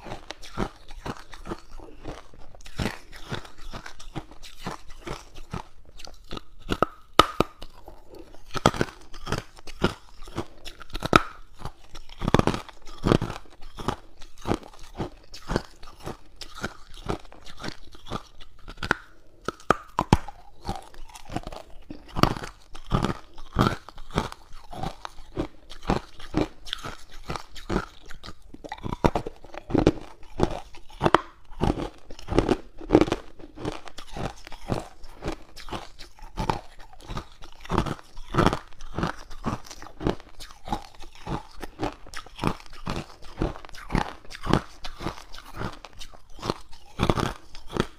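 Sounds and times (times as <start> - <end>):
person crunching ice cubes: 0.0 - 47.9.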